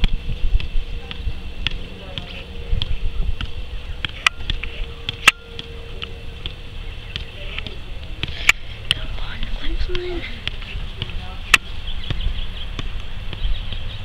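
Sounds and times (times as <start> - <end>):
high-pitched buzz: 0.0 - 12.6
soccer ball taps on feet: 0.0 - 13.8.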